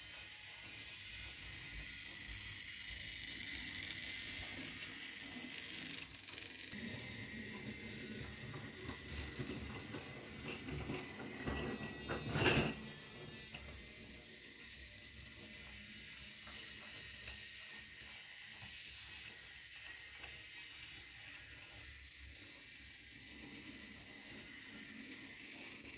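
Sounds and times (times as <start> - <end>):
toy train clicking and rattling: 0.0 - 25.9.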